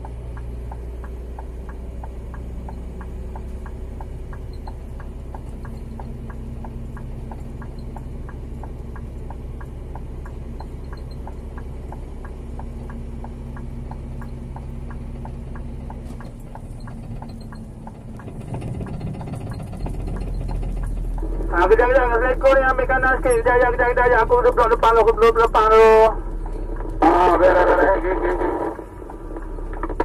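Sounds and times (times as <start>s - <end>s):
truck diesel engine running: 0.0s - 30.0s
turn signal relay ticking: 0.0s - 30.0s.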